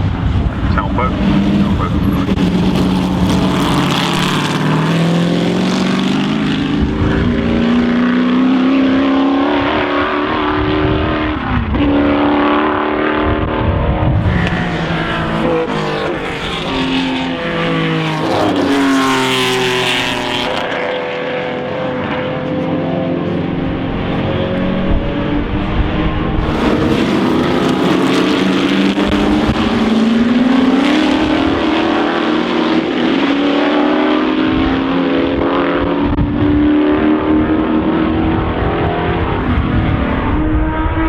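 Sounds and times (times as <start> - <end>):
racing car engine revving: 0.0 - 41.0.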